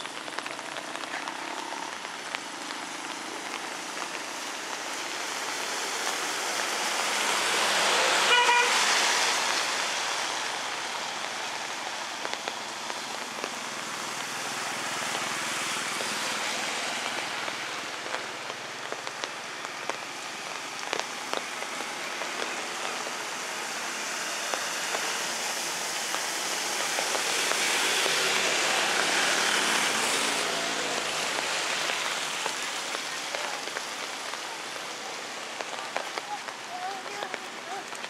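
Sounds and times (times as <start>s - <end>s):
rain falling on wet street: 0.0s - 38.0s
vehicle tyres swishing on wet road: 0.0s - 38.0s.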